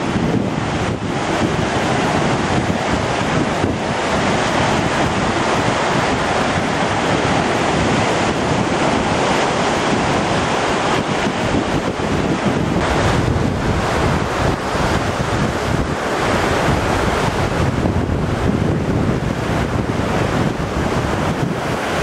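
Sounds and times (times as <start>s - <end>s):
rough surf breaking on beach: 0.0s - 22.0s
wind buffeting microphone: 0.0s - 22.0s.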